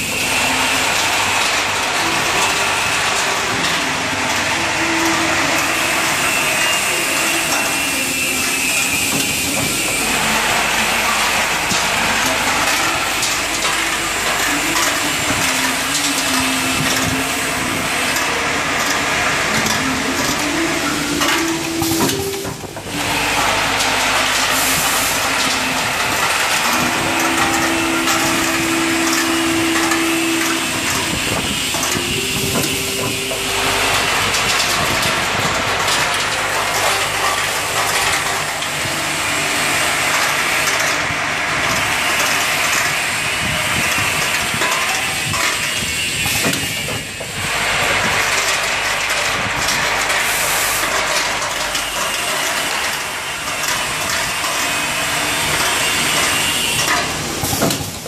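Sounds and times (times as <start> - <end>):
packing machine din: 0.0 - 58.0.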